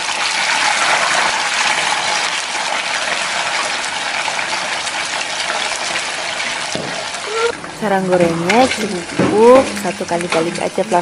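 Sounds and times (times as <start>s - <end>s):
fish deep-frying in oil: 0.0s - 11.0s.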